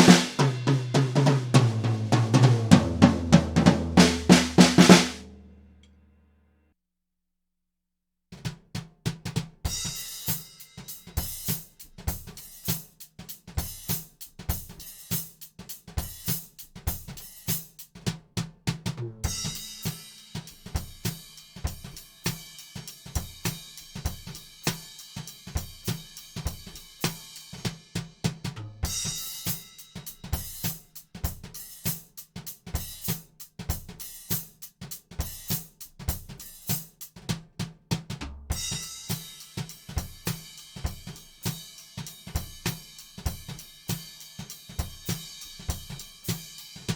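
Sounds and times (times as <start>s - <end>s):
drum kit groove: 0.0s - 5.8s, 8.4s - 46.9s.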